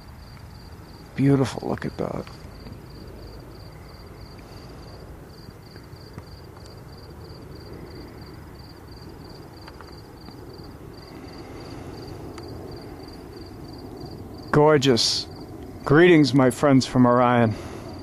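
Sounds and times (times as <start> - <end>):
crickets chirping: 0.0 - 18.0
distant aircraft rumble: 0.0 - 18.0.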